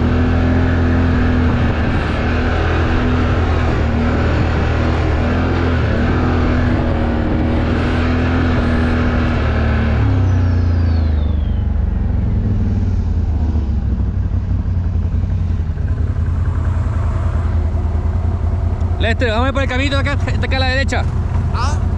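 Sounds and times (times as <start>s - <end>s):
off-road vehicle engine under load: 0.0s - 21.9s.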